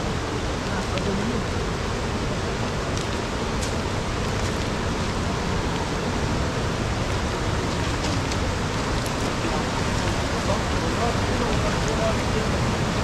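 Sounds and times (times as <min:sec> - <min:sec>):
fast-flowing river rushing: 0:00.0 - 0:13.0.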